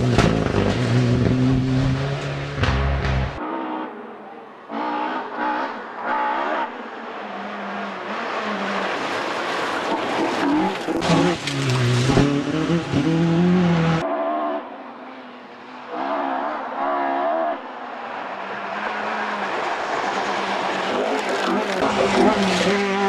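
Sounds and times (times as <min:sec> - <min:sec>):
rally car engine at high revs: 0:00.0 - 0:14.7, 0:15.8 - 0:23.0.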